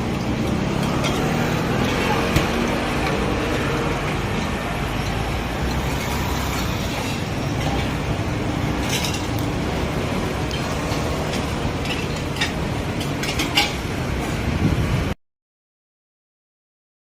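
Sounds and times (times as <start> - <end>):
traffic hum: 0.0 - 15.2.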